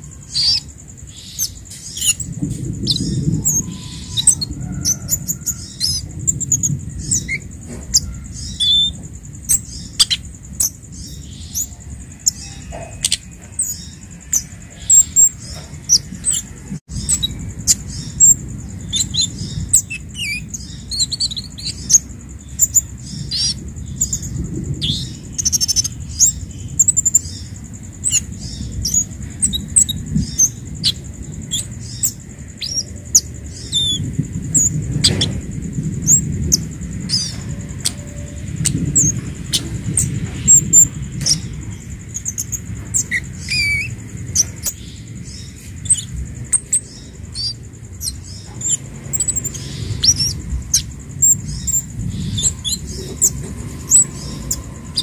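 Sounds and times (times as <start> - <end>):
bird high chips and ticks: 0.0 - 55.0
low steady rumble: 0.0 - 55.0.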